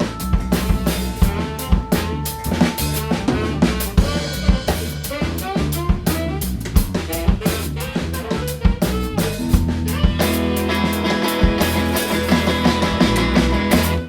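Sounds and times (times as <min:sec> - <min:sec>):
drum kit hits: 0:00.0 - 0:14.0
rock band playing: 0:00.0 - 0:14.0.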